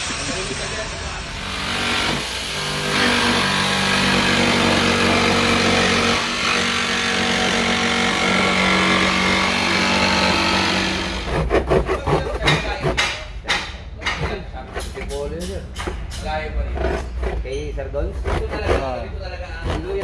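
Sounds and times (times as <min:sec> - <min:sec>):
jigsaw cutting sheet metal: 0:00.0 - 0:15.2, 0:16.7 - 0:20.0.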